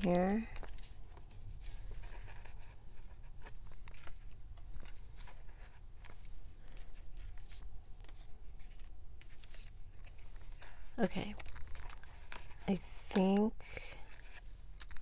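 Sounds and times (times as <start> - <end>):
paper and plastic rustling: 0.0 - 15.0
soft ticks and scrapes: 0.0 - 15.0.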